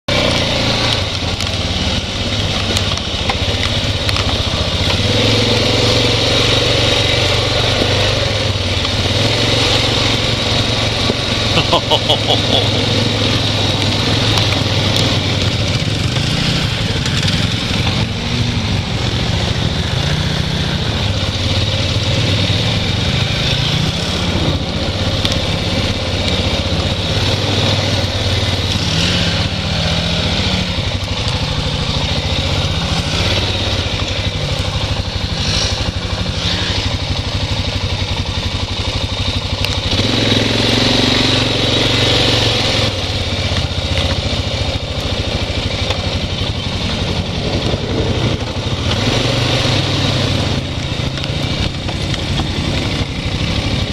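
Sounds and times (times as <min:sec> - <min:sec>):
atv engine revving: 0:00.0 - 0:53.9.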